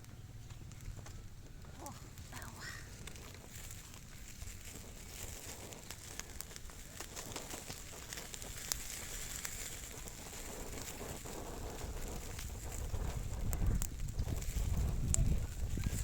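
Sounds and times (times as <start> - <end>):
light clicks and crackles: 0.0 - 16.0.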